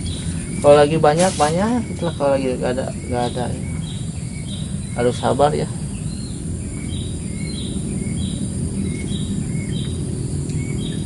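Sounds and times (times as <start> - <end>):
high chirping calls: 0.0 - 11.0
low rumble: 0.0 - 11.0.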